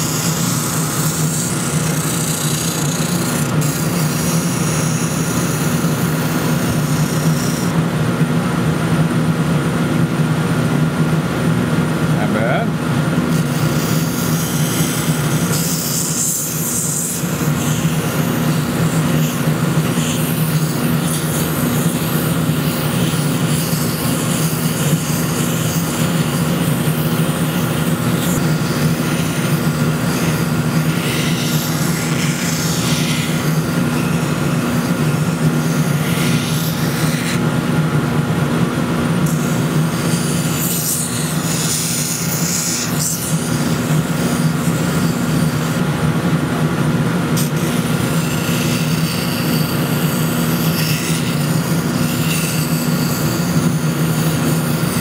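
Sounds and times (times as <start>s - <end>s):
wood hissing against sanding drum: 0.0s - 7.8s, 13.3s - 37.4s, 39.2s - 45.9s, 47.4s - 55.0s
drum sander running: 0.0s - 55.0s
dust extractor hum: 0.0s - 55.0s.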